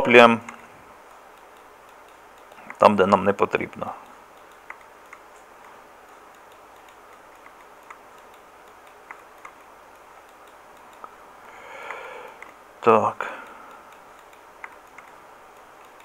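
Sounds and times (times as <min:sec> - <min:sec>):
low room tone hiss: 0:00.0 - 0:16.0
computer mouse clicks: 0:00.4 - 0:12.7, 0:13.4 - 0:16.0.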